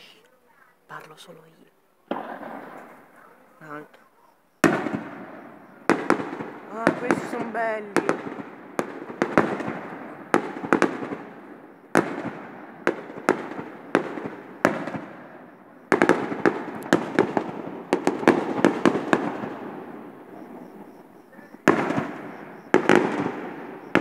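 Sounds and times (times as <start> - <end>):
firework shells bursting: 2.0 - 24.0.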